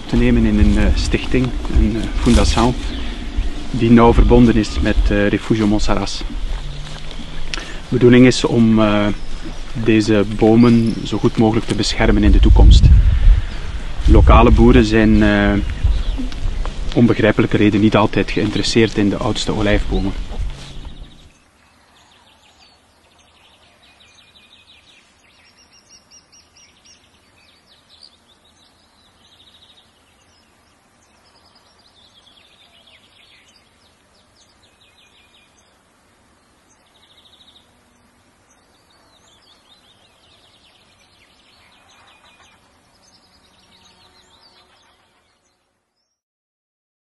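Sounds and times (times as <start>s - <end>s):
soft hiss: 0.0s - 45.6s
small birds chirping and trilling: 0.0s - 46.2s.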